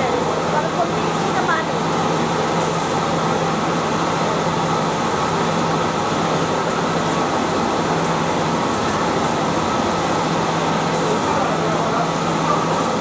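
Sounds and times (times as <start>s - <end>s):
paper machine running: 0.0s - 13.0s.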